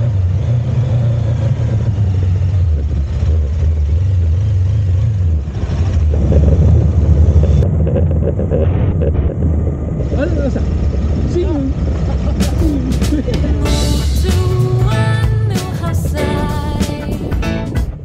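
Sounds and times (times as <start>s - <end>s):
motorcycle engines pulling away: 0.0s - 17.7s.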